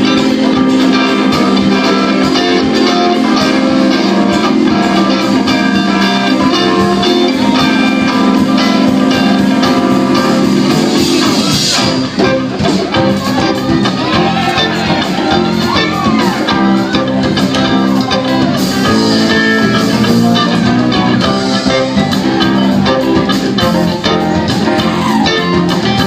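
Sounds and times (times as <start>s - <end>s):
live band playing guitar music: 0.0s - 26.0s.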